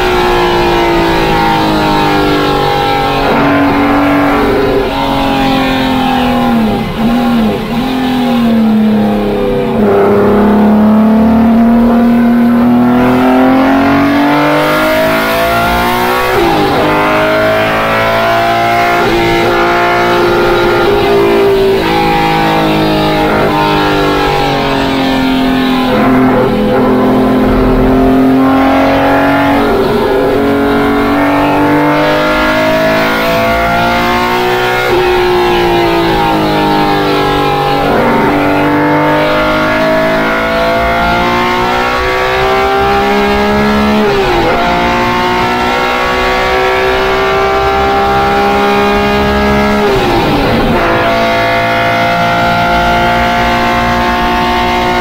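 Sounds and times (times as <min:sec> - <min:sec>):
race car engine under hard load: 0:00.0 - 0:55.0.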